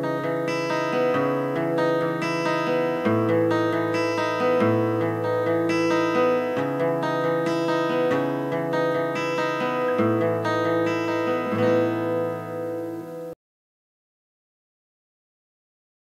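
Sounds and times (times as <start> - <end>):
guitar-led song: 0.0 - 13.4.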